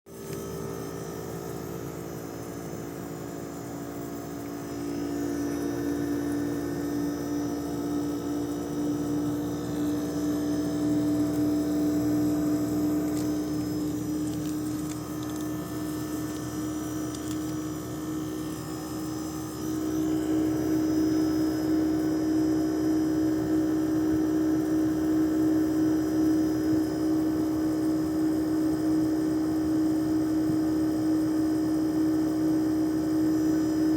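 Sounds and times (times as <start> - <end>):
air conditioner condenser humming: 0.1 - 33.9.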